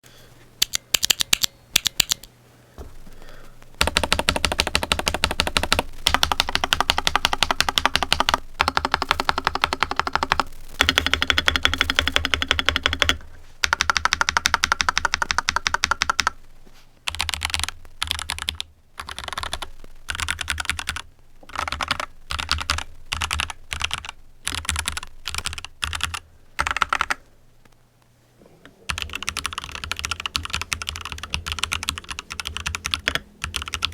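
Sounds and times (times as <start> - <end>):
mechanical keyboard typing: 0.6 - 2.3, 3.8 - 16.4, 17.1 - 27.2, 28.9 - 33.9.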